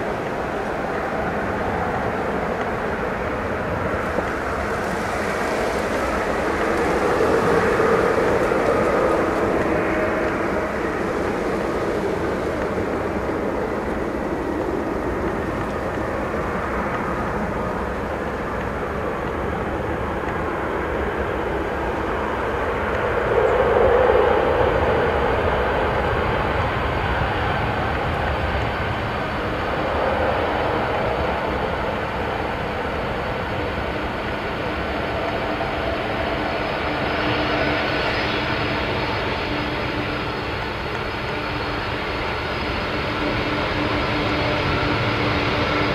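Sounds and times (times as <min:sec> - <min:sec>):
faint high engine whine: 0:00.0 - 0:45.9
jet engine rumble and hiss: 0:00.0 - 0:45.9.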